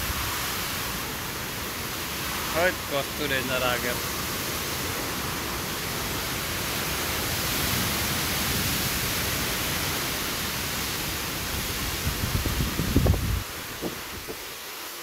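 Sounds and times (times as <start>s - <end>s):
heavy rain in wind: 0.0s - 15.0s.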